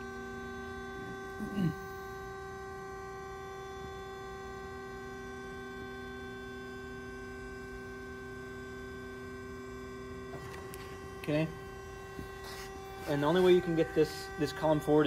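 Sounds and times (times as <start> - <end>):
hydraulic pump humming: 0.0 - 15.0.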